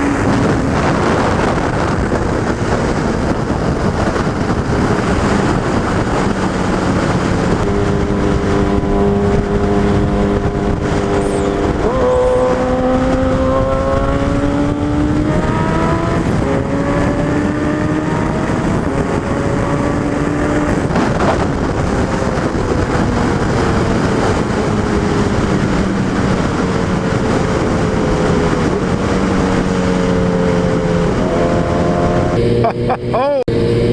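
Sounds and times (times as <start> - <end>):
motorcycle engine running: 0.0 - 33.9
wind rush: 0.0 - 33.9.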